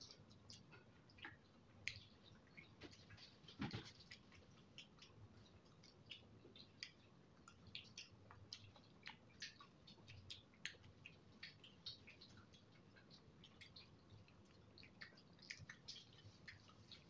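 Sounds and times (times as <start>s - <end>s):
wet chewing with mouth clicks: 0.0s - 17.0s.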